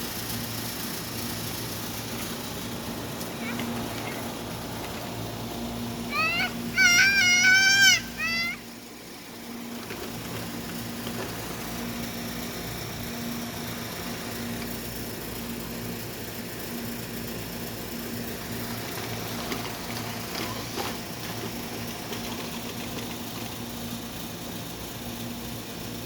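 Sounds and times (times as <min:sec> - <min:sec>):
small motor humming: 0:00.0 - 0:25.4.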